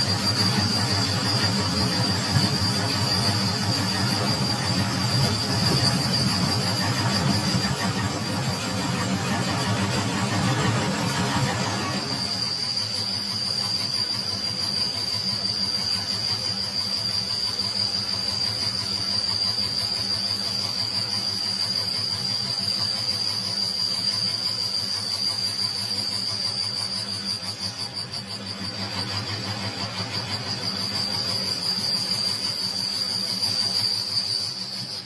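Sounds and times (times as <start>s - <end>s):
lathe whining: 0.0s - 35.0s.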